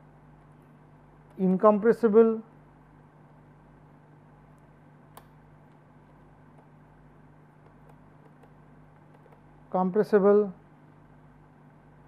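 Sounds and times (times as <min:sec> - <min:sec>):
faint electrical hum and hiss: 0:00.0 - 0:12.0.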